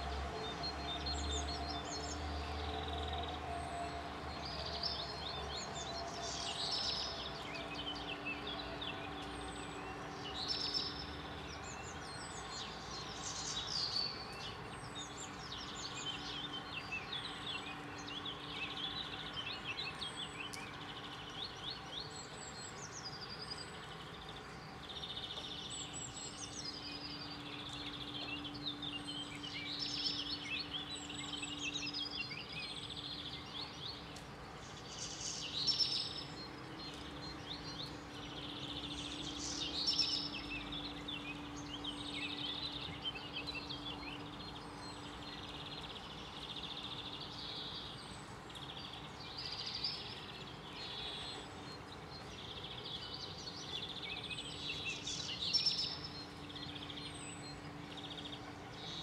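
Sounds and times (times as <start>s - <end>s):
birds chirping and trilling: 4.4s - 59.0s.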